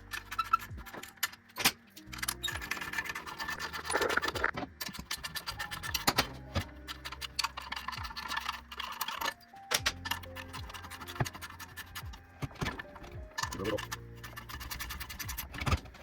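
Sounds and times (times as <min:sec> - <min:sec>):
metal hand tools clicking and scraping: 0:00.0 - 0:16.0.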